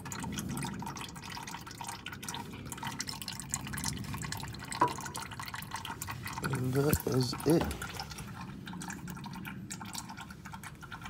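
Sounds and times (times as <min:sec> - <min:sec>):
oil dripping into a pan: 0:00.0 - 0:11.0.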